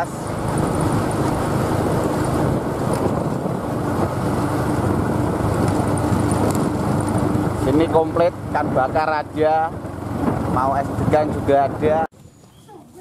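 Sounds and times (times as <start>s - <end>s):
wind on microphone: 0.0s - 12.1s
vehicle rumbling on road: 0.0s - 12.8s.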